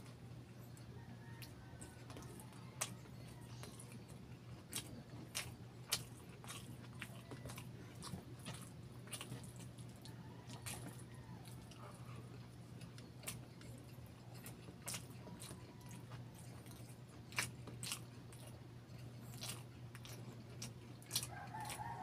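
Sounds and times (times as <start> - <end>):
chewing food: 0.0 - 22.0
steady low hum: 0.0 - 22.0.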